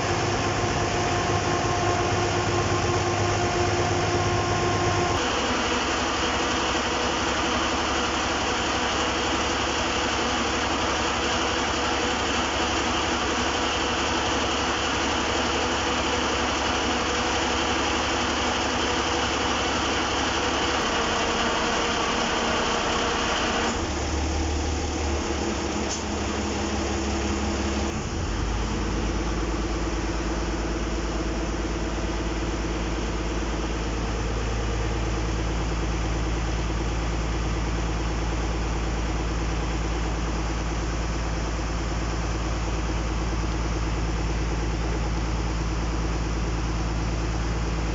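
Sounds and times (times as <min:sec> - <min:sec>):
boat diesel engine running: 0:00.0 - 0:47.9.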